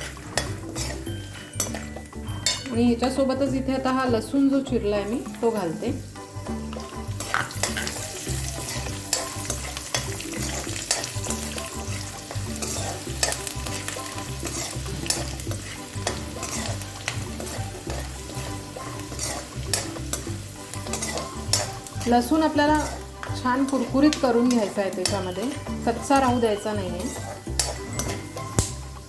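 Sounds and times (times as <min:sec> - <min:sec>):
spoon scraping pan: 0:00.0 - 0:03.2, 0:06.2 - 0:29.0
garlic sizzling in hot oil: 0:00.0 - 0:29.0.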